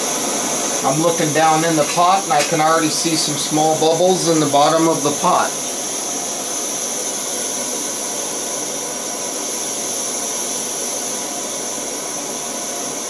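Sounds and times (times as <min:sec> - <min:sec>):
camping stove burner hissing: 0:00.0 - 0:13.0.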